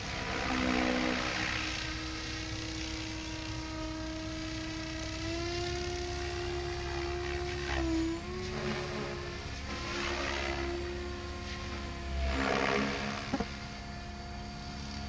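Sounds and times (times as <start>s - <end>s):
low hum: 0.0s - 15.0s
model helicopter rotor whine: 0.0s - 15.0s.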